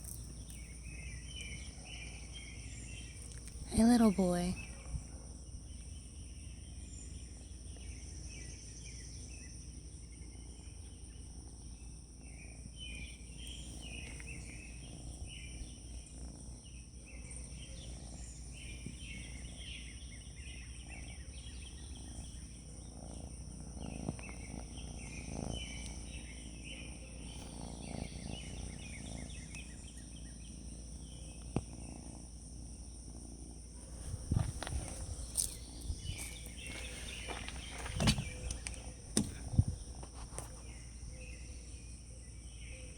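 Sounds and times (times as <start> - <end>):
birds twittering and chirping: 0.0 - 42.9
high insect droning: 0.0 - 42.9.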